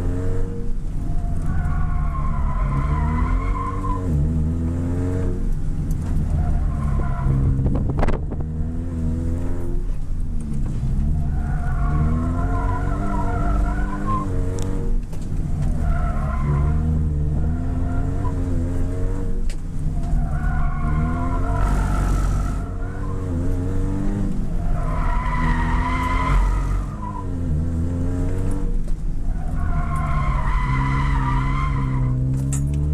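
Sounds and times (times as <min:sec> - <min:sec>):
race car engine revving: 0:00.0 - 0:32.9
tires squealing: 0:01.0 - 0:04.8, 0:05.4 - 0:09.2, 0:10.0 - 0:32.6.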